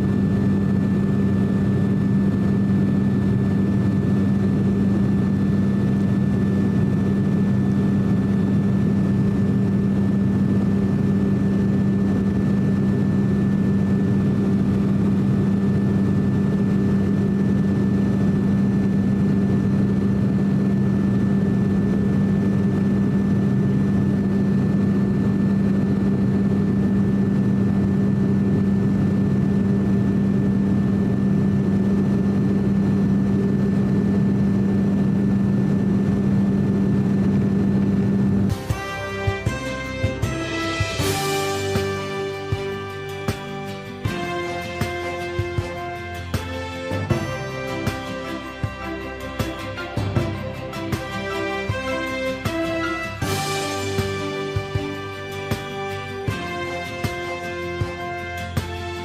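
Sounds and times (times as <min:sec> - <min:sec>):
propeller plane cabin drone: 0:00.0 - 0:59.0.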